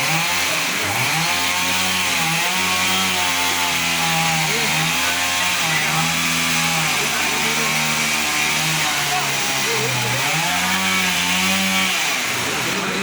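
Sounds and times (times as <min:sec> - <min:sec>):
chainsaw running at high revs: 0:00.0 - 0:13.0.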